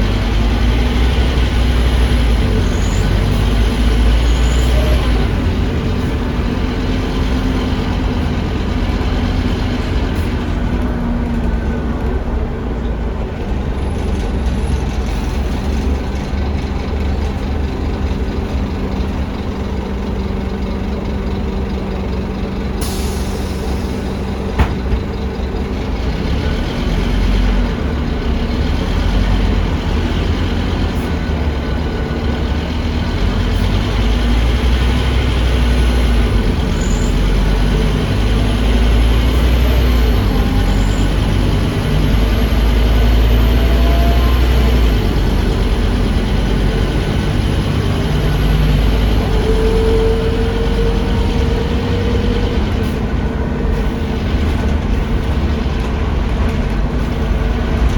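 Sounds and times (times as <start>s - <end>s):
diesel bus engine running: 0.0s - 57.9s
low road rumble: 0.0s - 57.9s.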